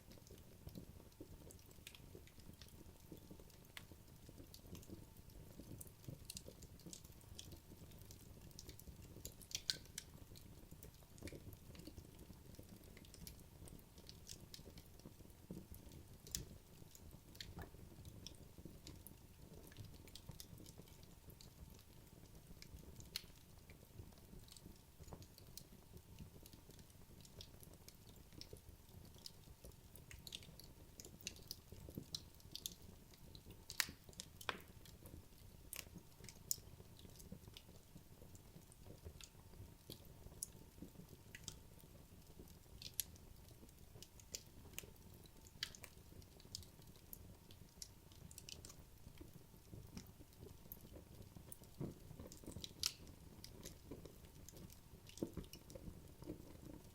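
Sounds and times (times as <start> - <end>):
logs crackling in fireplace: 0.0 - 56.9.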